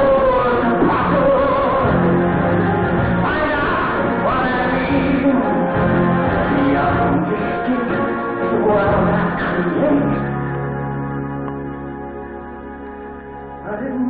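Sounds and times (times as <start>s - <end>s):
person singing: 0.0s - 11.6s, 13.5s - 14.0s
pit band playing: 0.0s - 14.0s.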